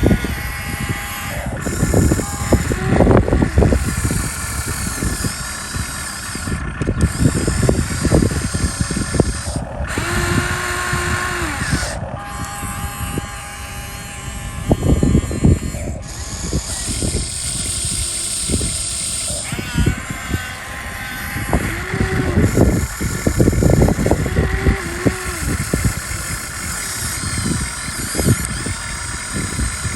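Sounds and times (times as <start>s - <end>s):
model excavator motor whine: 0.0s - 29.9s.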